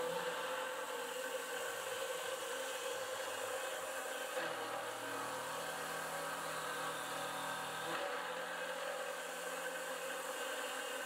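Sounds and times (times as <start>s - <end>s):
milling machine cutting metal: 0.0s - 11.0s.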